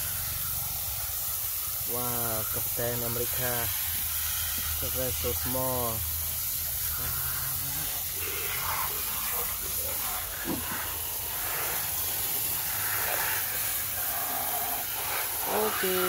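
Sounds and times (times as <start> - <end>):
water spray hissing: 0.0 - 16.0.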